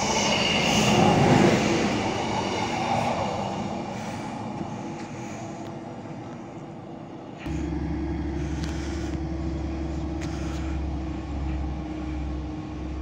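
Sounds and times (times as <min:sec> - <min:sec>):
deep rumble: 0:00.0 - 0:13.0
diesel railcar engine drone: 0:00.0 - 0:13.0
steady hum: 0:00.0 - 0:13.0.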